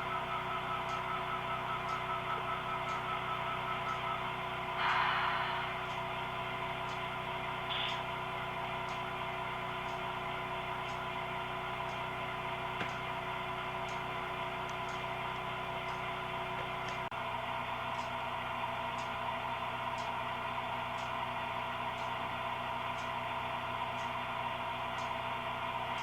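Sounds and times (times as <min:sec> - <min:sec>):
model train electric hum: 0:00.0 - 0:26.0.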